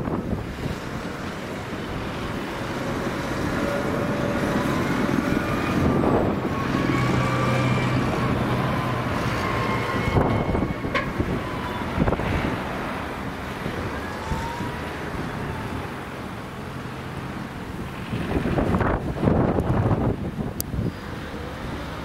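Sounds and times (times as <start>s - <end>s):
cars passing: 0.0s - 22.0s
tractor diesel engine drone: 0.0s - 22.0s.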